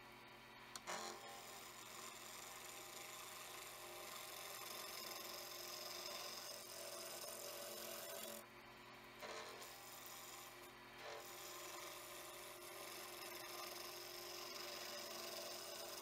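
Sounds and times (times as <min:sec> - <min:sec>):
chisel cutting wood on lathe: 0:00.8 - 0:08.4, 0:09.2 - 0:16.0.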